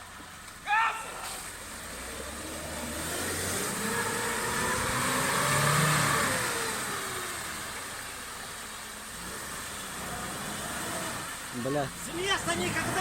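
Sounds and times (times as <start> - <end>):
off-road vehicle engine revving: 1.6 - 13.0.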